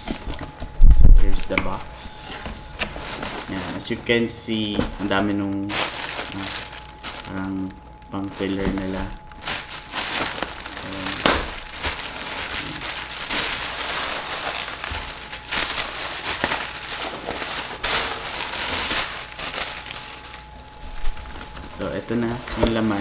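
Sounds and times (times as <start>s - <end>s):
plastic packing filler crinkling: 0.0s - 23.0s.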